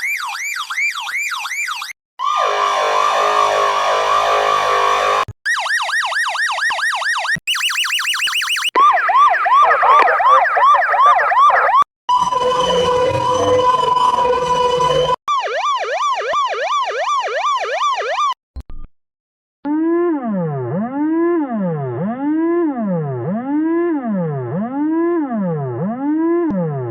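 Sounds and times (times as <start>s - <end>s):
police siren wailing and yelping: 0.0s - 11.9s, 12.6s - 18.4s, 19.7s - 26.9s
steady siren tone: 0.0s - 18.4s, 19.7s - 26.9s.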